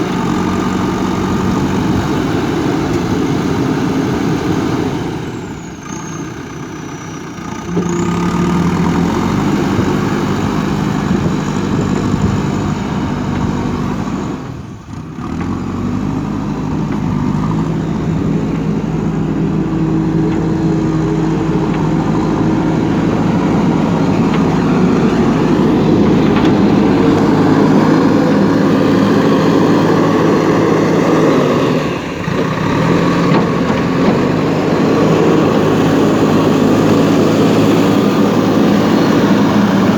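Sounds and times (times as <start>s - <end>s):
backhoe diesel engine working: 0.0s - 39.9s.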